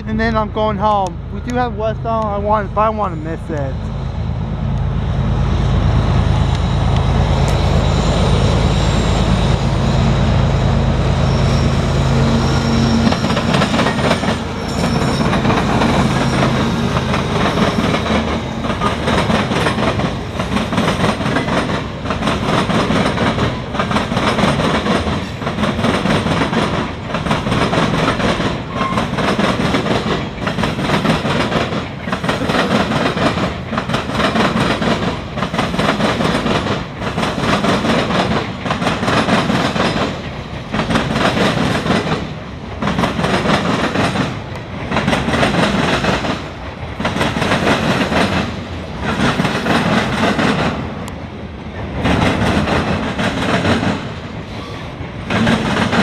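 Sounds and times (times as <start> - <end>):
freight train wheels clacking: 6.3 - 56.0.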